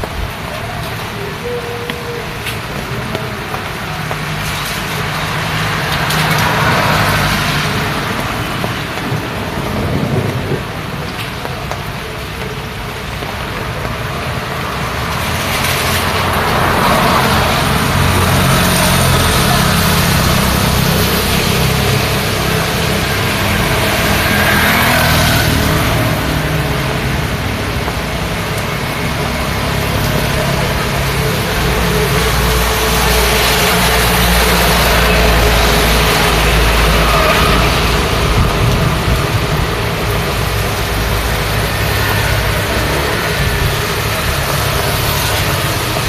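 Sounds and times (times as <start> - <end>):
rain falling: 0.0 - 46.0
road traffic passing: 0.0 - 46.0.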